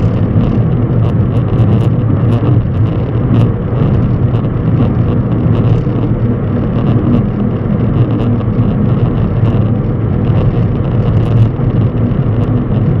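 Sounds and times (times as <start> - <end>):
engine rumbling: 0.0 - 13.0
faint ticks and rattles: 0.0 - 13.0.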